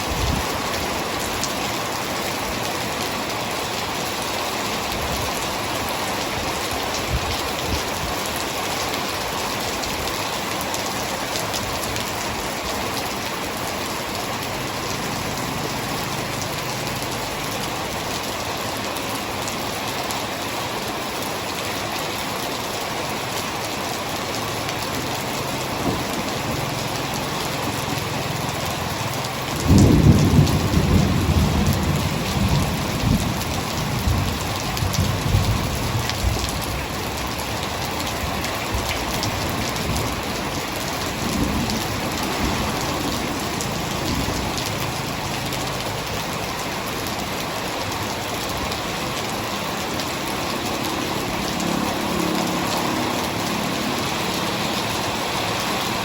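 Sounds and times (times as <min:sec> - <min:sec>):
heavy rain hissing: 0:00.0 - 0:56.0.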